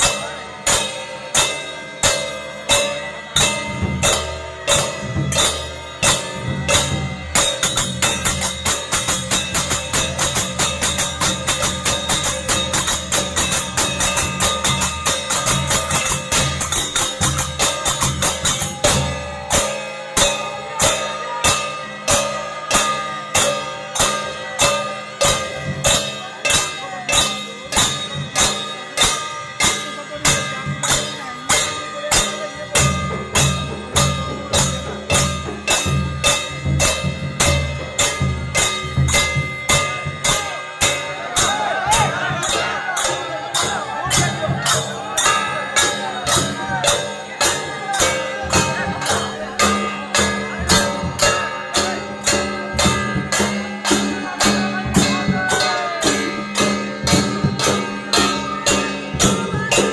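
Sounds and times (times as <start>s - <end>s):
percussion music: 0.0s - 59.9s.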